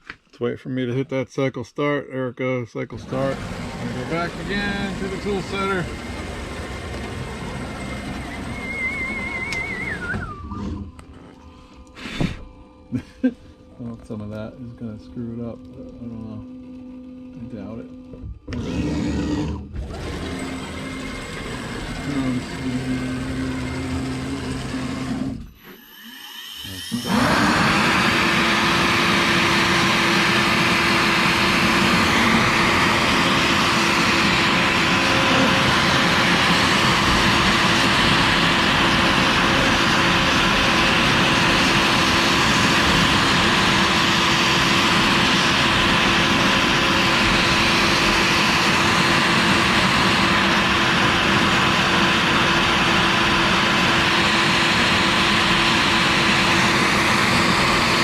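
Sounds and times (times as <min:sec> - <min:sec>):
router spindle machining plastic: 0:03.0 - 0:11.4, 0:14.2 - 0:58.0.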